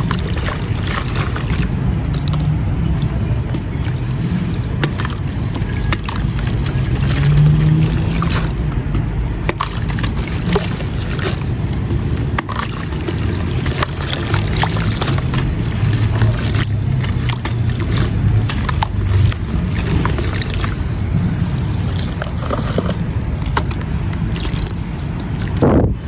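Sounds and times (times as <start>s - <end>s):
gritty powder crunching: 0.0s - 26.0s
low wet sloshing: 0.0s - 26.0s.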